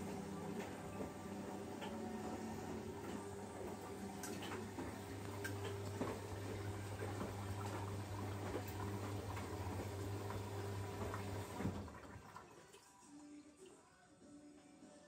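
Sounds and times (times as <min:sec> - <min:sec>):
washing machine motor hum: 0:00.0 - 0:12.8.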